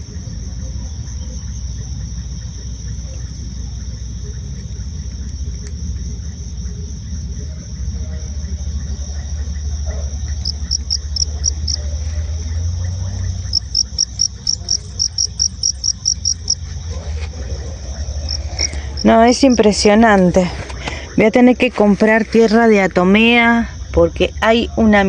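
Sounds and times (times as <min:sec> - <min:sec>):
crickets trilling: 0:00.0 - 0:25.0
rapid pulsed cricket chirps: 0:00.0 - 0:25.0.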